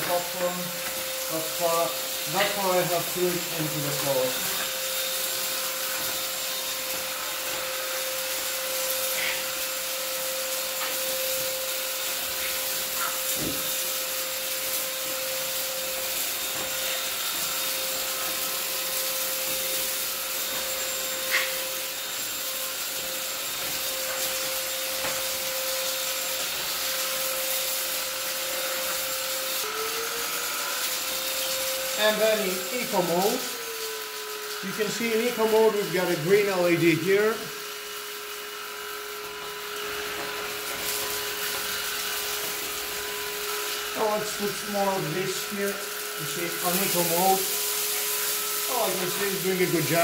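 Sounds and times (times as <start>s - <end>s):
vacuum cleaner running: 0.0s - 50.0s.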